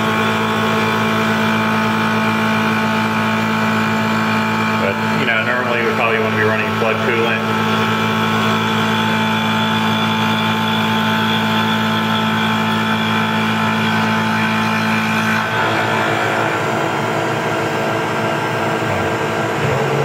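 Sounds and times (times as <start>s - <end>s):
milling machine cutting metal: 0.0s - 20.0s.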